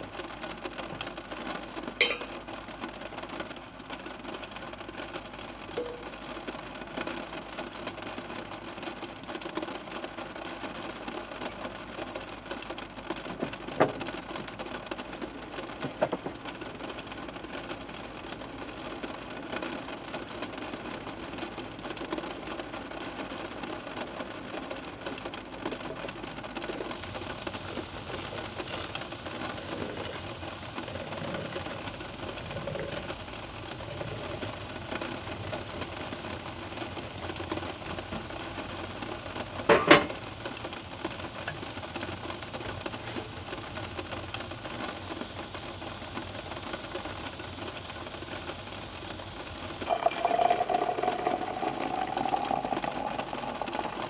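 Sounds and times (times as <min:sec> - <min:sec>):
rain pattering on a roof: 0:00.0 - 0:54.0.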